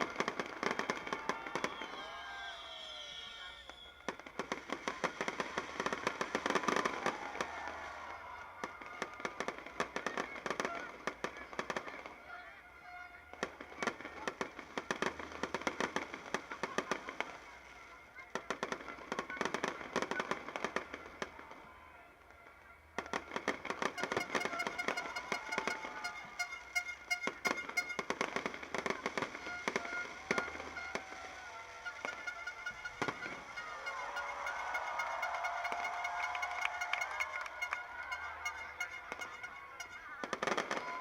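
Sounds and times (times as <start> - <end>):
fireworks bangs and pops: 0.0 - 12.3, 13.2 - 41.0.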